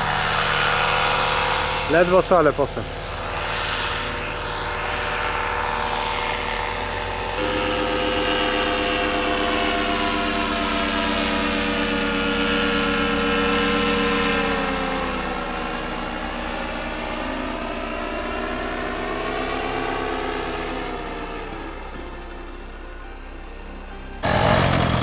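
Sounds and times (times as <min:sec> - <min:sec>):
paramotor engine and propeller overhead: 0:00.0 - 0:25.0.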